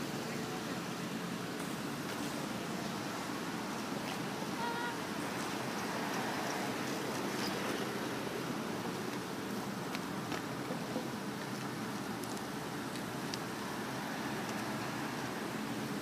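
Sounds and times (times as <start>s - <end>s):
street background noise: 0.0s - 16.0s.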